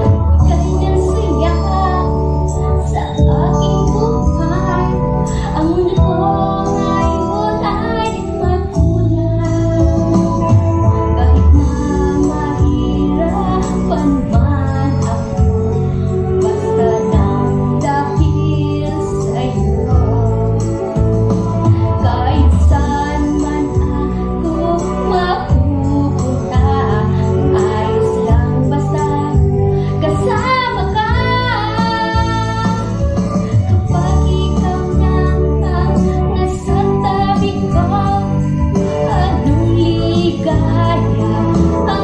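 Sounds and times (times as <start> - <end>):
held keyboard chords backing track: 0.0 - 42.0
woman singing a slow ballad: 0.0 - 42.0.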